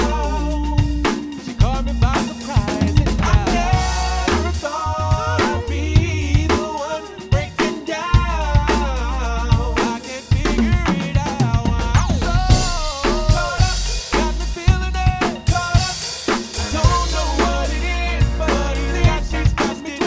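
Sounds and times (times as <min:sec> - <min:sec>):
deep held bass: 0:00.0 - 0:06.7, 0:08.2 - 0:11.0, 0:11.6 - 0:15.8, 0:16.6 - 0:19.6
drum kit groove: 0:00.0 - 0:20.0.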